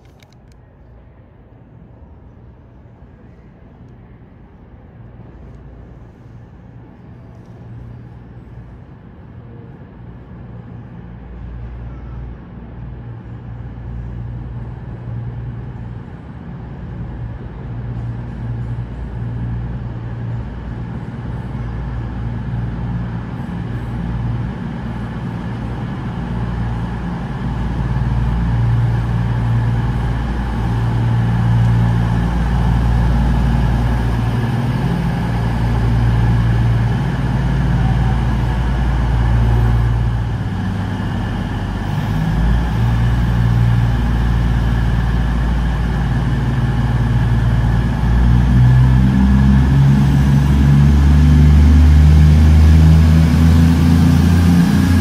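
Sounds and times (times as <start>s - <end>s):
train diesel engines humming: 0.0s - 55.0s.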